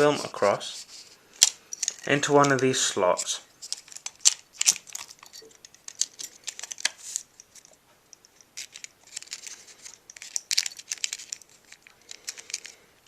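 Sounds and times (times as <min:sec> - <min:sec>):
film scraping and clicking in camera: 0:00.9 - 0:07.7, 0:08.6 - 0:12.8.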